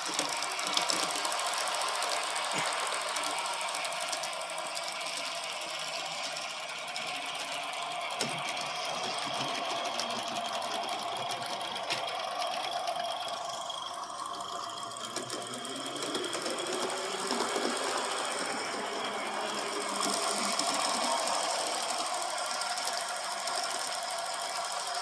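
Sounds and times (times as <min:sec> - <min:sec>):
model steam locomotive running: 0:00.0 - 0:25.0.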